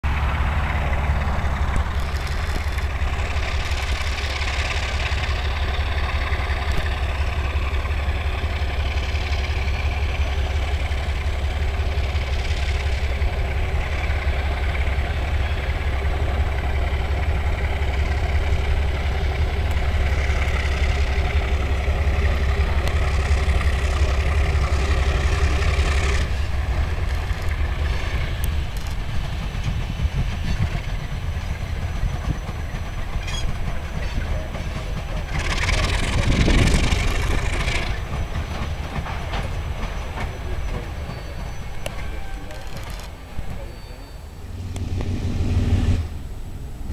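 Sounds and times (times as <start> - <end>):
diesel locomotive engine rumbling: 0.0 - 46.9.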